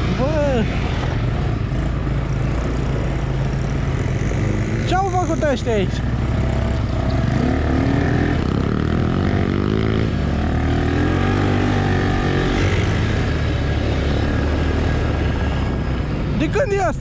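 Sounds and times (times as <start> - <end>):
small atv engines droning: 0.0 - 17.0.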